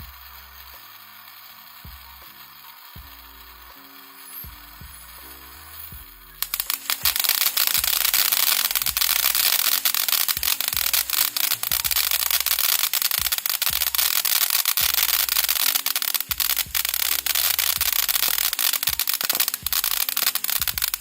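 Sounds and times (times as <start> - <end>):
firework sparks hissing and crackling: 0.0 - 21.0.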